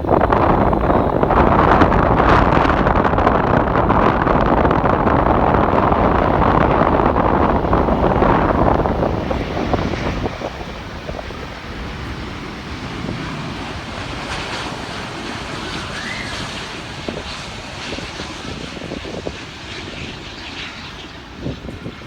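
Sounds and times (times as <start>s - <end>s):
jet engine roar: 0.0s - 22.0s
wind buffeting microphone: 0.0s - 22.0s.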